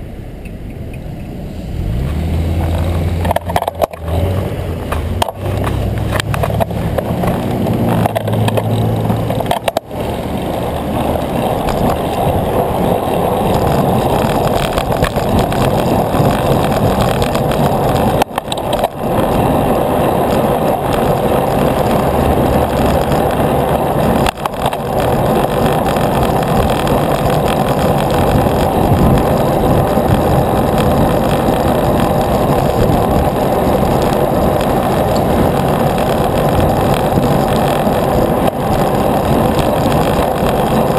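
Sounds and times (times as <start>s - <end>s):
bicycle tyres rolling on road: 0.0s - 40.9s
motor vehicle engine hum: 0.0s - 40.9s
wind rushing over microphone: 0.0s - 40.9s.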